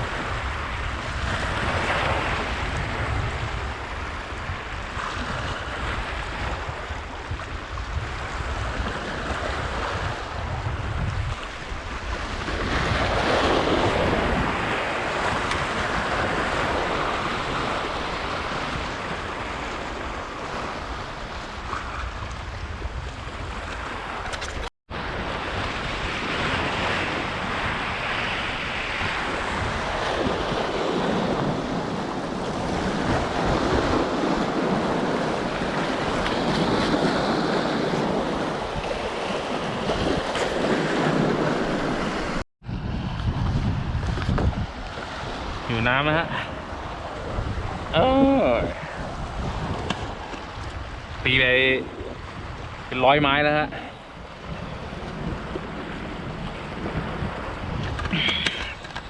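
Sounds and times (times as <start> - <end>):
sea waves washing ashore: 0.0 - 59.0
wind buffeting microphone: 0.0 - 59.0.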